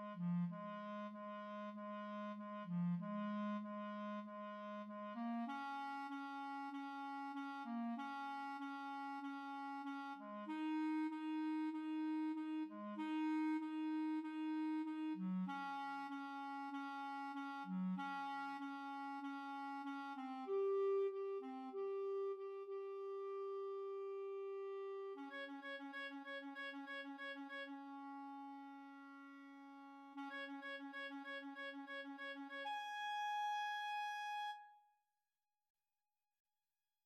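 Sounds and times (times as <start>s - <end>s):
clarinet playing: 0.0s - 34.9s.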